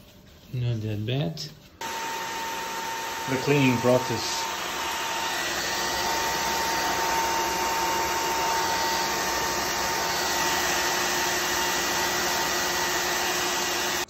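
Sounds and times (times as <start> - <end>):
vacuum motor rushing: 1.8 - 14.0.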